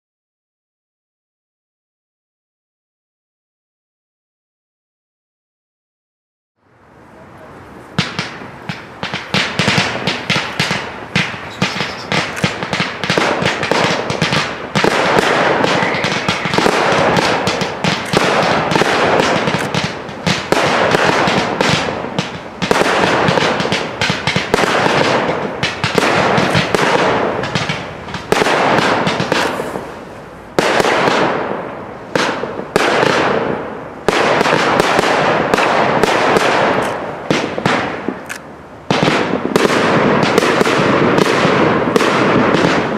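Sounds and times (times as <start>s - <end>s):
loud firework volleys: 7.0s - 42.9s
fireworks crackling and popping: 7.4s - 42.9s.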